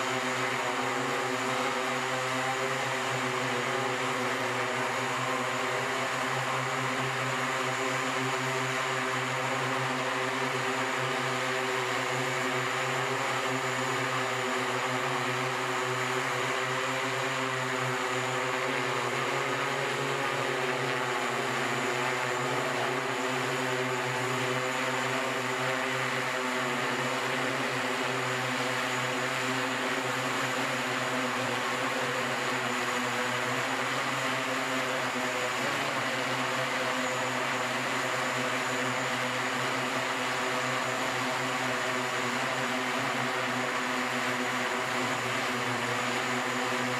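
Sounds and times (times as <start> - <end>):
electric propellers humming: 0.0 - 46.9.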